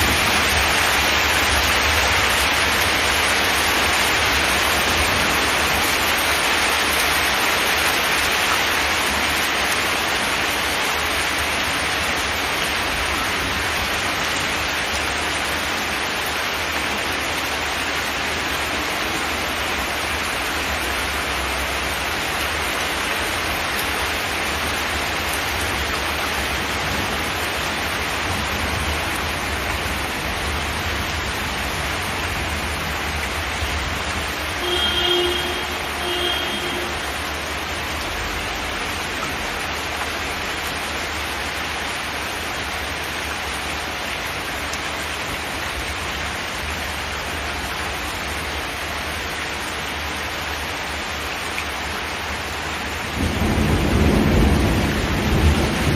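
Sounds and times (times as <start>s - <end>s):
rain on a metal roof: 0.0s - 55.9s.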